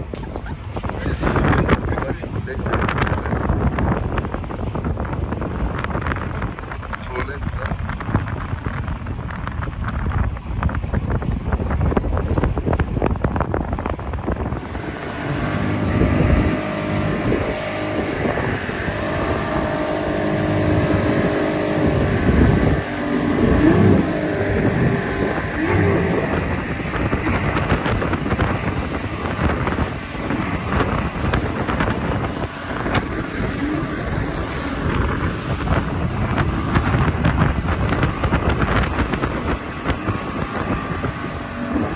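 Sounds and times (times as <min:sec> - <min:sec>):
motorboat engine running: 0:00.0 - 0:41.9
water rushing past hull: 0:00.0 - 0:41.9
wind on microphone: 0:00.0 - 0:41.9.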